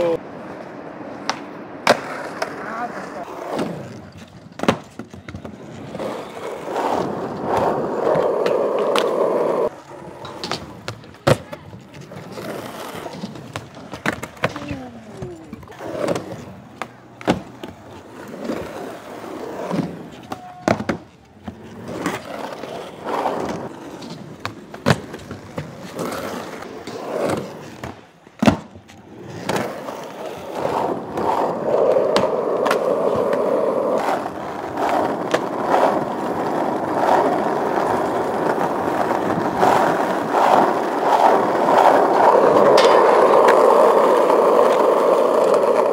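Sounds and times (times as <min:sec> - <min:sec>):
skateboard clacks and impacts: 0:00.0 - 0:45.9
skateboard wheels rolling on concrete: 0:00.0 - 0:45.9.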